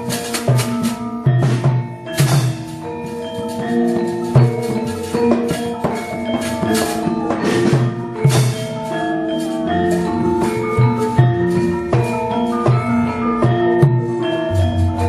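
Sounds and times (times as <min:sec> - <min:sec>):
heavy drum strokes: 0:00.0 - 0:15.0
metallophones ringing: 0:00.0 - 0:15.0.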